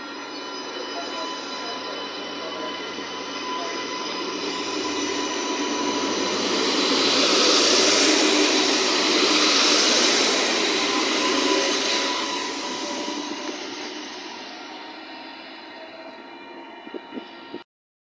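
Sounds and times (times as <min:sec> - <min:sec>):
high hiss: 0:00.0 - 0:15.4
railcar drive whining: 0:00.0 - 0:17.6
train wheel and running-gear noise: 0:00.0 - 0:17.6.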